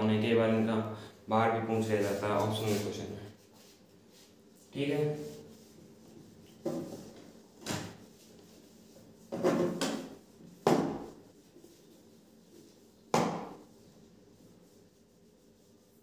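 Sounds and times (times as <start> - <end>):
duster wiping whiteboard: 1.6 - 16.0.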